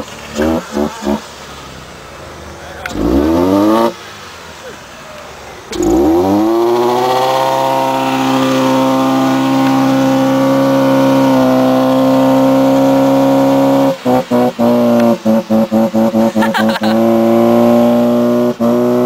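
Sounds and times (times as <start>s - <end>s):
car engine revving high: 0.0s - 19.0s.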